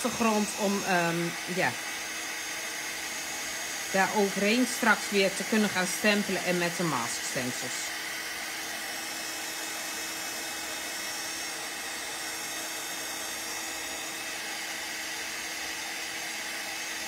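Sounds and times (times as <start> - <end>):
heat tool blowing hot air: 0.0 - 17.0.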